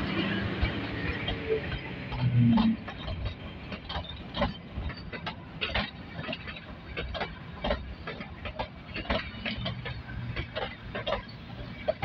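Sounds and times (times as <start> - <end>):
train wheels clacking on rail joints: 0.0 - 12.0.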